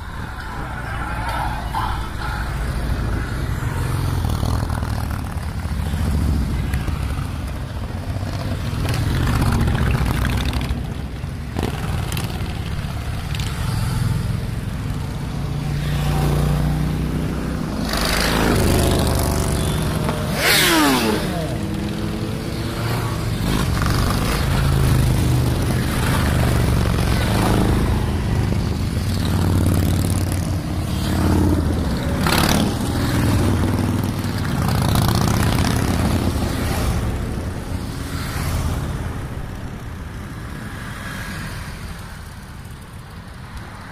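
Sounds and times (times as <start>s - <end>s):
motorcycles riding past: 0.0s - 43.9s.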